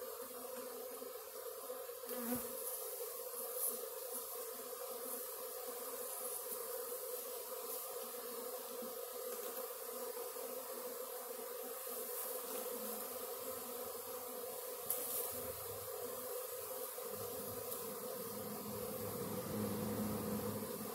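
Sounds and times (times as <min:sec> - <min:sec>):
bees buzzing: 0:00.0 - 0:20.9.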